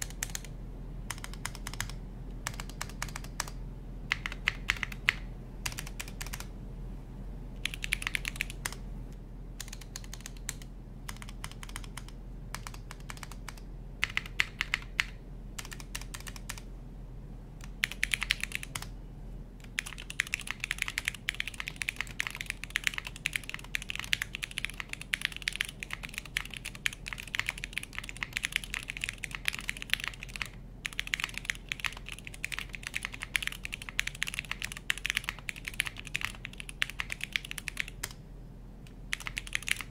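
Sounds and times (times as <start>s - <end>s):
mechanical keyboard typing: 0.0s - 0.5s, 1.1s - 6.5s, 7.6s - 8.8s, 9.6s - 16.6s, 17.6s - 18.9s, 19.6s - 38.2s, 39.1s - 39.9s.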